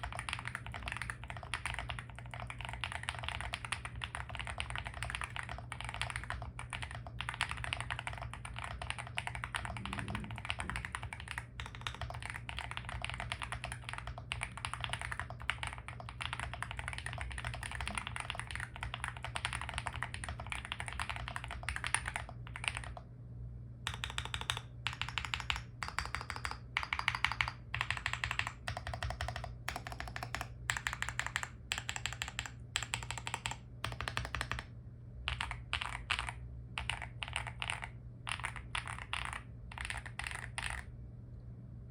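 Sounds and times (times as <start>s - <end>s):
mechanical keyboard typing: 0.0s - 23.0s, 23.9s - 34.7s, 35.3s - 40.9s.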